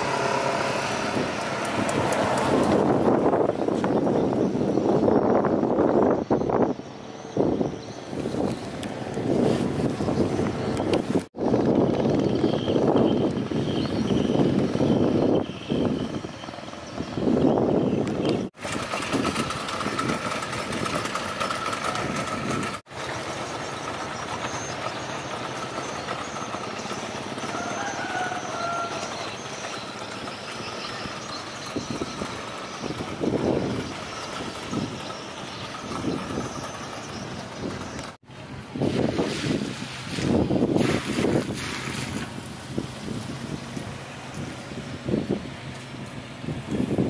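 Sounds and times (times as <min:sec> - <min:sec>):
wind buffeting microphone: 0:00.0 - 0:23.0, 0:23.8 - 0:47.0
engine drone with whine: 0:00.0 - 0:47.0.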